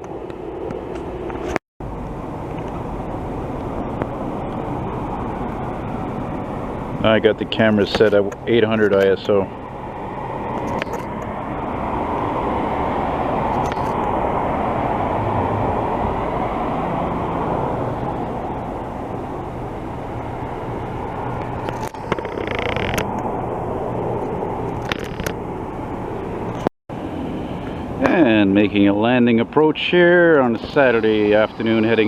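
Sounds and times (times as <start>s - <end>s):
jet engines flying past: 0.0s - 32.0s.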